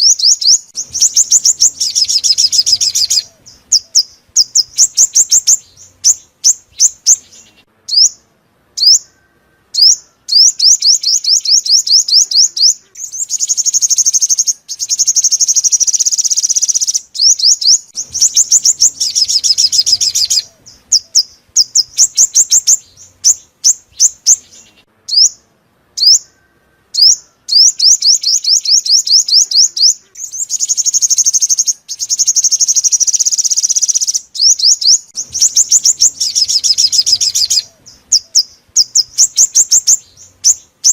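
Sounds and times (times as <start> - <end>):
sunbird trilling song: 0.0 - 40.9.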